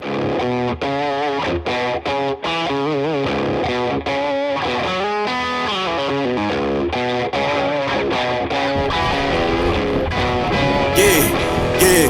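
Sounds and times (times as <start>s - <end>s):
distorted electric guitar melody: 0.0s - 12.0s.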